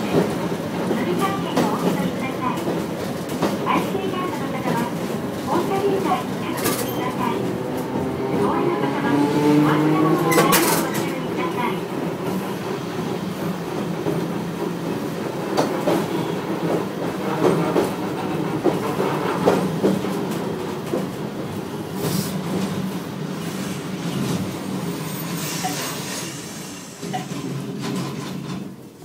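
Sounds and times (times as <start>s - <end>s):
tram motor hum: 0.0s - 25.0s.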